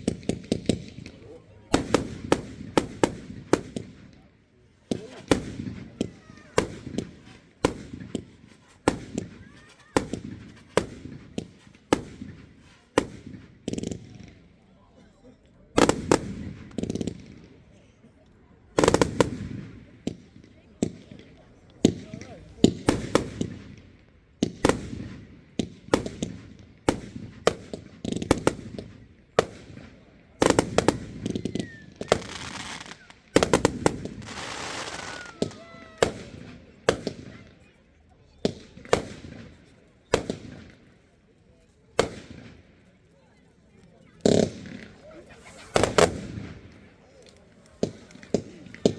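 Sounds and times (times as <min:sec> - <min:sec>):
firework bangs with echo: 0:00.0 - 0:04.2, 0:04.9 - 0:14.4, 0:15.8 - 0:17.6, 0:18.8 - 0:37.5, 0:38.4 - 0:40.9, 0:42.0 - 0:42.7, 0:44.2 - 0:46.8, 0:47.7 - 0:48.9.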